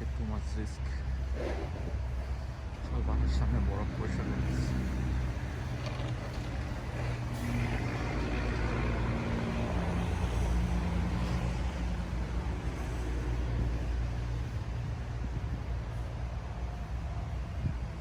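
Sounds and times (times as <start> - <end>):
large engine humming: 0.0 - 18.0.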